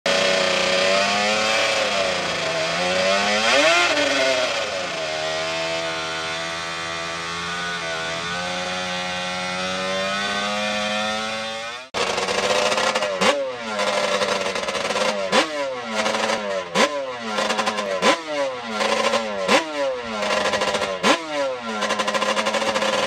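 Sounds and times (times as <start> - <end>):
two-stroke engine revving: 0.1 - 23.0.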